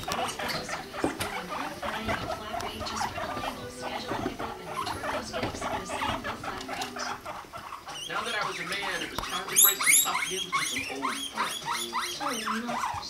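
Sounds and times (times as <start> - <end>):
guinea pigs squeaking and chirping: 0.0 - 13.0.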